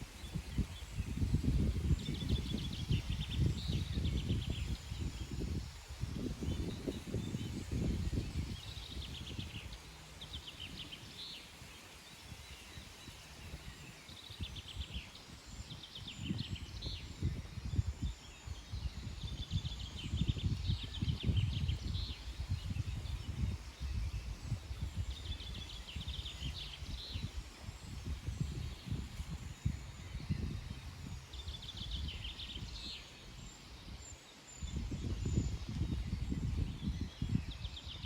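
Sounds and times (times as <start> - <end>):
wind gusting over microphone: 0.0 - 38.0
bird singing rapid trills: 0.2 - 38.0.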